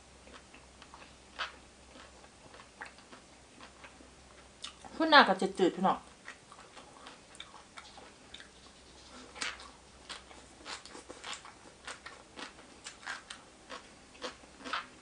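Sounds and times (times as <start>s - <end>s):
person chewing food: 0.2s - 4.9s, 6.1s - 15.0s.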